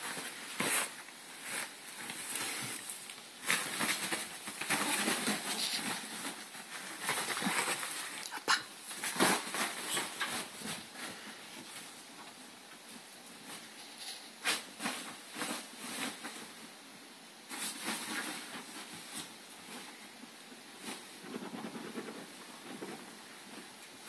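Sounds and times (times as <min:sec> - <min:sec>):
bedding rustling: 0:00.0 - 0:16.7, 0:17.4 - 0:24.0
soft patter of paws: 0:00.0 - 0:16.8, 0:17.5 - 0:24.0.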